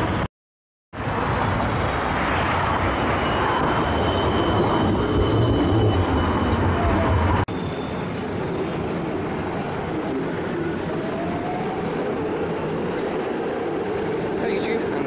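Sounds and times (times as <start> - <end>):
tram wheels rumbling on rail: 1.0 - 15.0
high-pitched squeal: 1.7 - 14.8.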